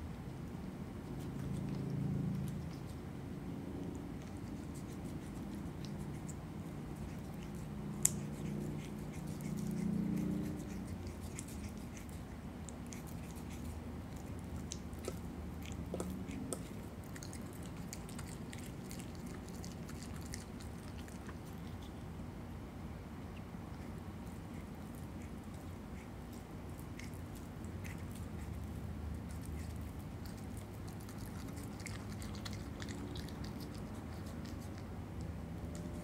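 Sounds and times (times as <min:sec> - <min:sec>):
animal chewing and crunching: 0:00.2 - 0:22.2, 0:23.3 - 0:36.0.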